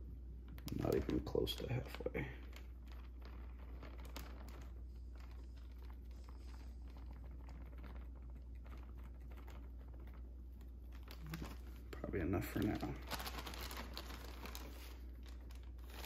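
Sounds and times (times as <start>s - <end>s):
steady low hum: 0.0s - 16.0s
plastic bag crinkling: 0.4s - 16.0s.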